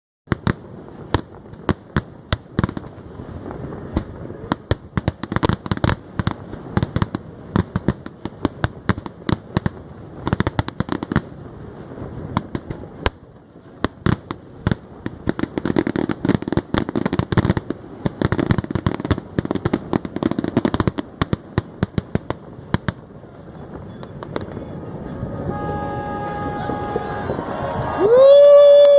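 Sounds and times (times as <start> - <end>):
fireworks bangs and crackles: 0.3 - 28.9.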